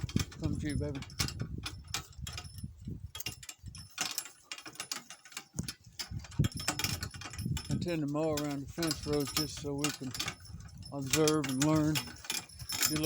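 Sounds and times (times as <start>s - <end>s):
metal harness jingling: 0.0s - 13.0s.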